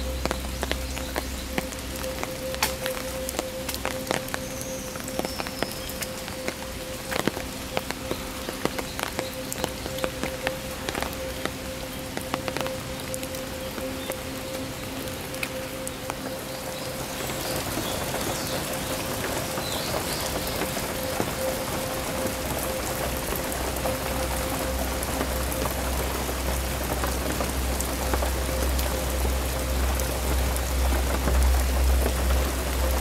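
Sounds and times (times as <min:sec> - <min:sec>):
rain falling on foliage: 0:00.0 - 0:33.0
raindrops ticking: 0:00.0 - 0:33.0.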